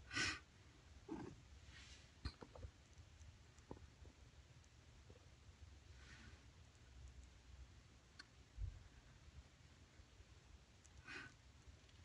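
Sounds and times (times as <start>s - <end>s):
soft low cat sound: 0.0s - 12.0s.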